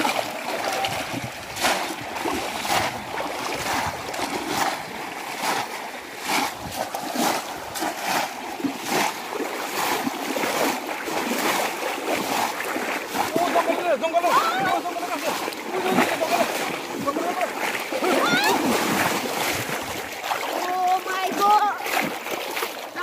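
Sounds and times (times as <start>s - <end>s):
fish traps splashing into water: 0.0s - 23.0s
flowing water rushing: 0.0s - 23.0s.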